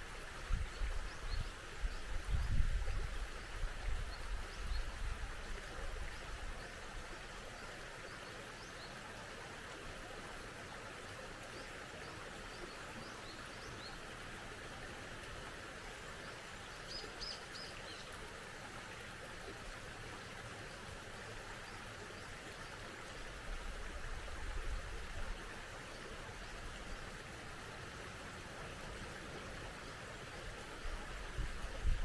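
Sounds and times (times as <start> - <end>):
small stream running: 0.0 - 32.0.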